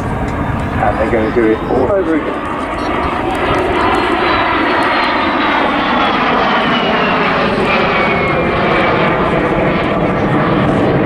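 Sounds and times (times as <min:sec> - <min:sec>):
jet aircraft passing: 0:00.0 - 0:11.0.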